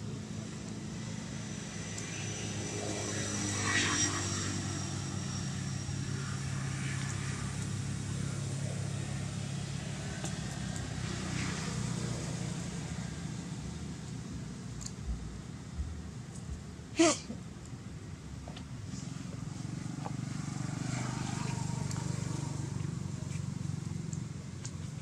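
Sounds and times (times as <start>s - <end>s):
low engine drone: 0.0s - 16.7s, 18.0s - 25.0s.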